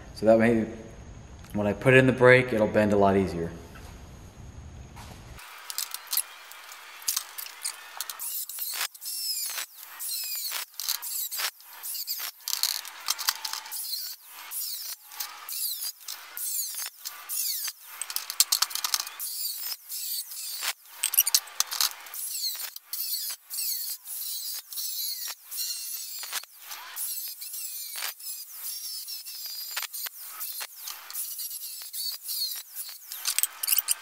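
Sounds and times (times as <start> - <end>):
angle grinder cutting steel: 5.4 - 34.0.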